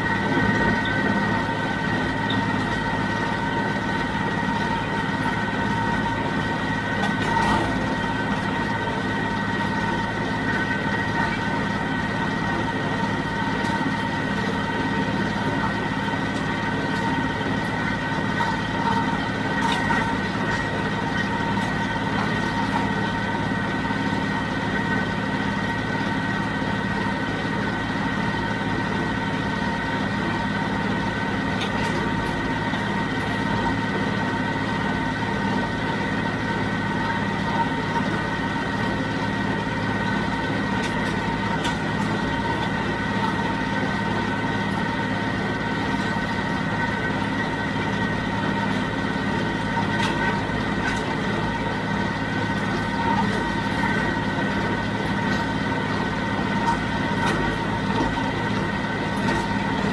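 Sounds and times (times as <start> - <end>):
diesel tractor running: 0.0 - 59.9.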